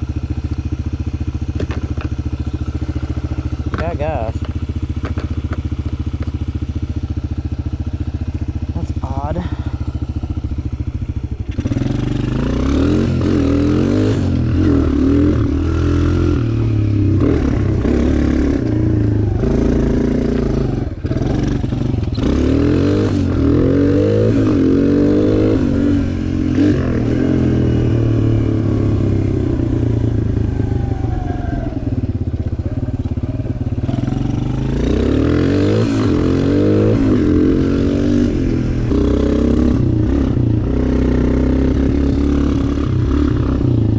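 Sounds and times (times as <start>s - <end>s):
dirt bike engine revving: 5.2s - 32.8s, 33.4s - 43.9s.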